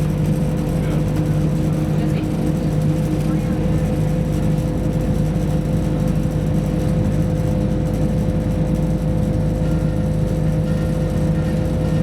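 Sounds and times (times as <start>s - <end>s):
train engine drone: 0.0s - 12.0s.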